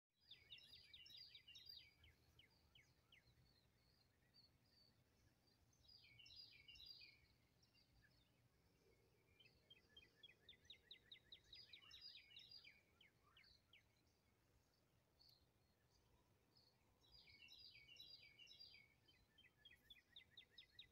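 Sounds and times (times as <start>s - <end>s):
songbirds chirping: 0.2s - 20.9s.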